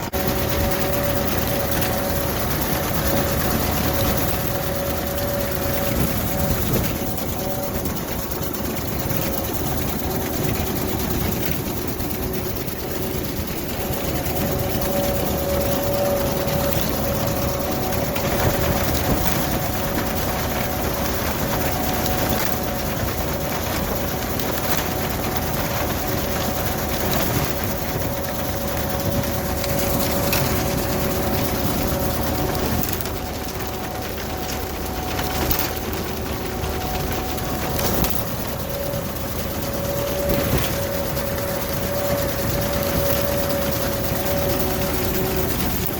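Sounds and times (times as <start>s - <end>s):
binder mechanism working: 0.0s - 45.9s
tractor engine running: 0.0s - 45.9s.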